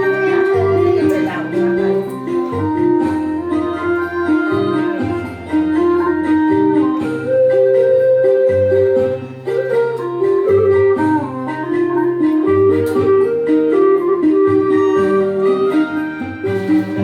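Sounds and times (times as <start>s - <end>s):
bamboo flute melody: 0.0s - 17.0s
keyboard accompaniment: 0.0s - 17.0s
low bass: 0.0s - 17.0s.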